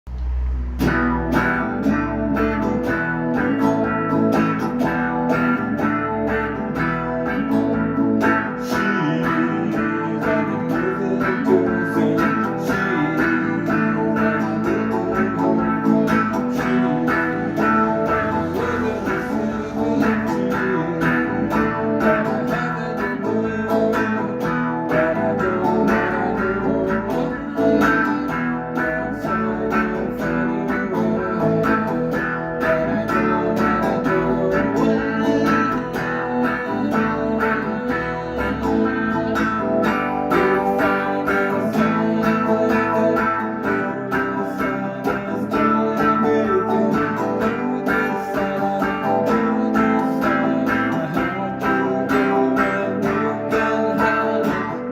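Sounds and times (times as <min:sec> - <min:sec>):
plucked and strummed guitar: 0:00.1 - 0:54.9.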